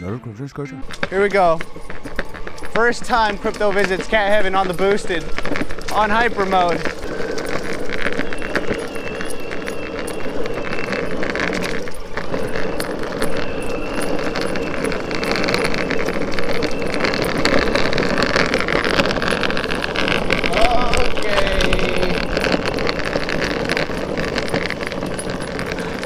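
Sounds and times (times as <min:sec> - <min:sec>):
high electric motor whine: 0:00.8 - 0:26.0
skateboard wheels rumbling on asphalt: 0:00.8 - 0:26.0.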